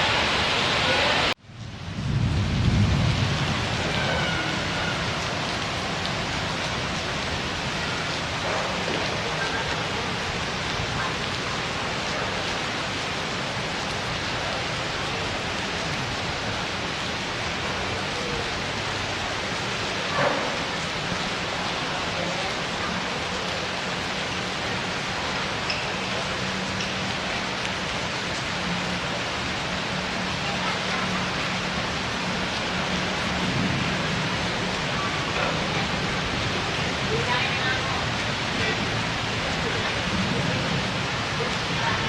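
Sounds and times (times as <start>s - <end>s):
heavy rain: 0.0s - 42.0s.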